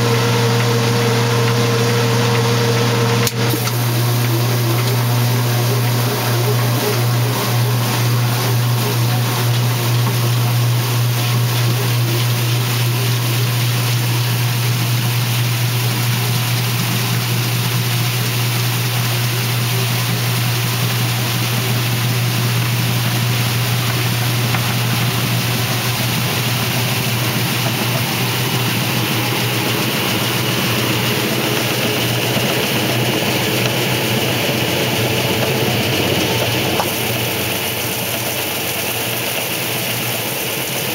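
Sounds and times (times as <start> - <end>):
washing machine spin hum: 0.0 - 40.9.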